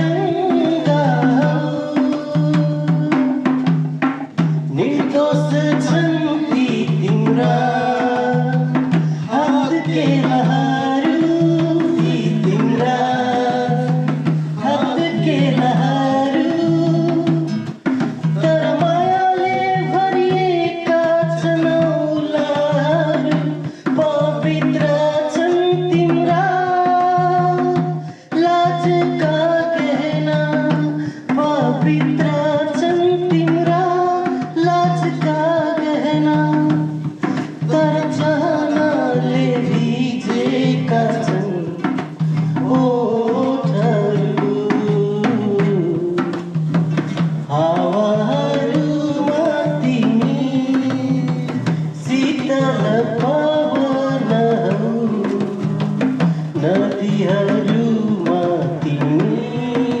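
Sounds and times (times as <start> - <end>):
hand drum rhythm: 0.0 - 60.0.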